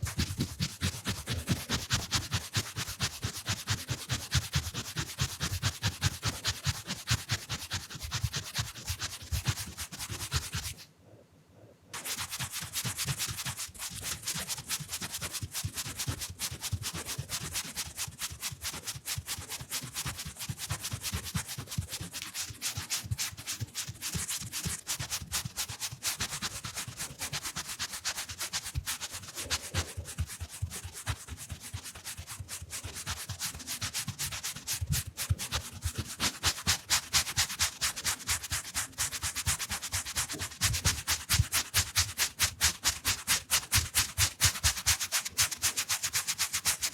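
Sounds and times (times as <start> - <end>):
brush scratching on microphone: 0.0 - 10.8, 12.0 - 46.9.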